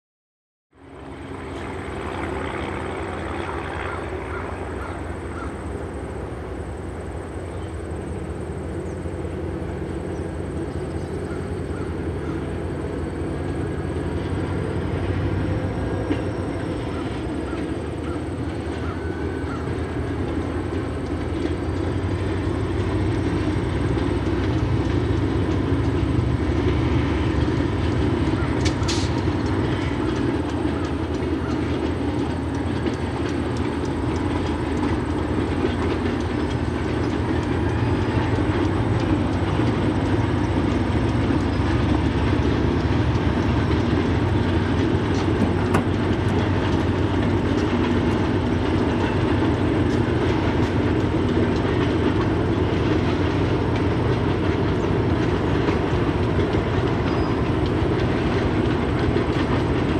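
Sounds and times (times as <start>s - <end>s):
diesel freight train approaching: 0.7s - 59.9s.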